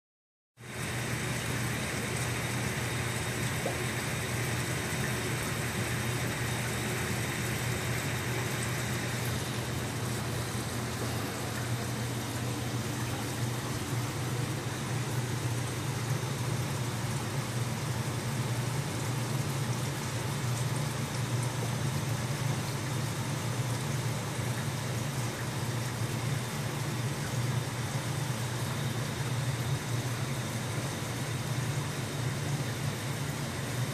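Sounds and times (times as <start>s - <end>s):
aquarium equipment humming: 0.6s - 33.9s
hiss of moving water: 0.6s - 33.9s.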